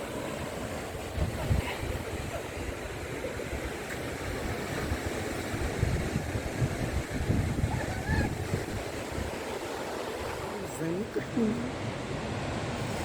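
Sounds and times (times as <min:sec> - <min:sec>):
wind buffeting microphone: 0:00.0 - 0:10.6
sea waves washing in: 0:00.0 - 0:13.0.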